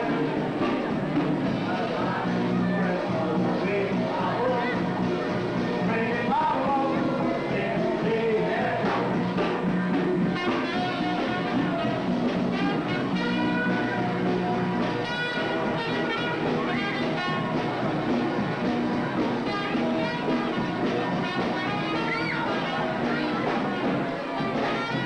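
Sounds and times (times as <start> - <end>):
band playing background music: 0.0 - 25.0.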